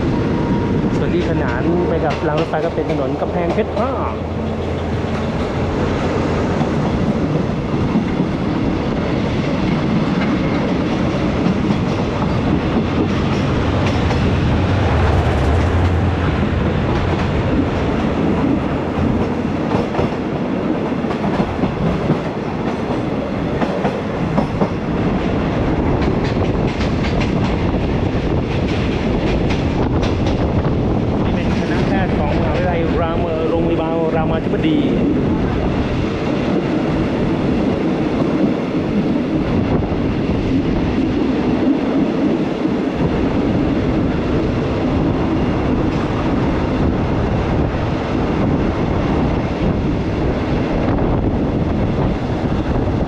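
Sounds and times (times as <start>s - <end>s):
train carriage rumbling: 0.0s - 53.0s.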